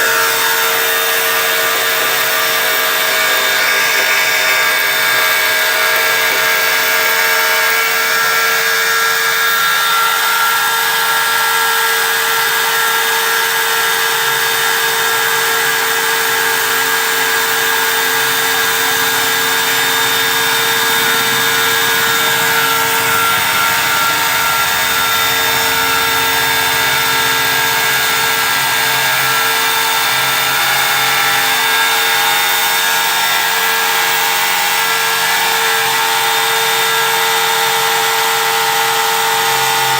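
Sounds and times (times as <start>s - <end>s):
engraving machine spindle cutting: 0.0s - 39.9s.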